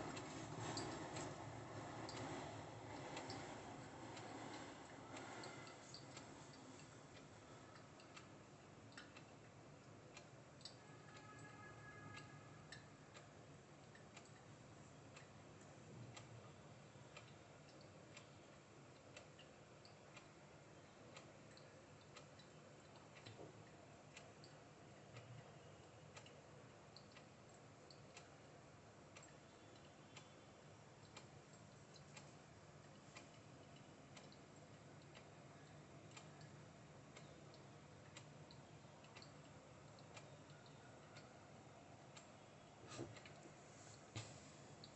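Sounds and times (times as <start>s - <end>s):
light regular ticking: 0.0s - 11.5s, 12.1s - 44.1s
coffee dripping: 0.0s - 11.6s, 16.8s - 44.0s
low steady hum: 0.0s - 44.9s.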